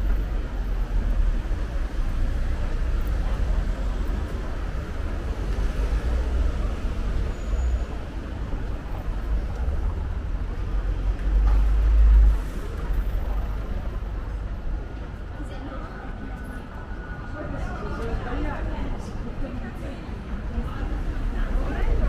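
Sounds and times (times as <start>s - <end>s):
low rumble of cars: 0.0s - 22.0s.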